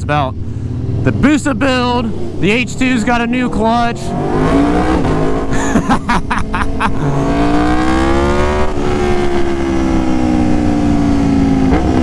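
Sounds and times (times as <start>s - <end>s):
loud motorcycle engine revving: 0.6s - 12.0s.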